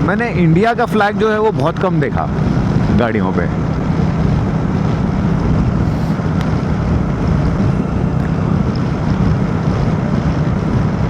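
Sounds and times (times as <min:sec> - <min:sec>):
motorcycle engine drone: 0:00.0 - 0:11.0
wind noise on microphone: 0:00.0 - 0:11.0.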